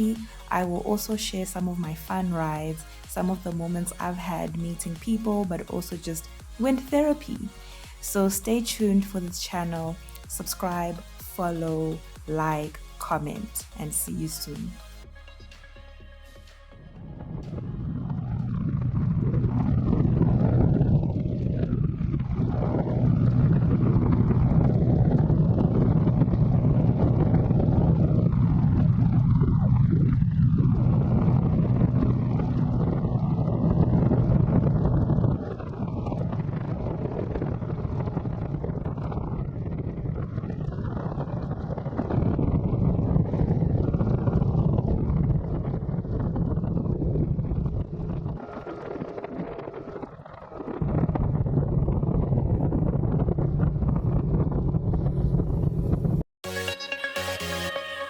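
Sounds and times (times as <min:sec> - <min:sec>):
wind rushing over microphone: 0:00.0 - 0:14.8, 0:16.8 - 0:56.3
motorcycle engine drone: 0:00.0 - 0:58.0.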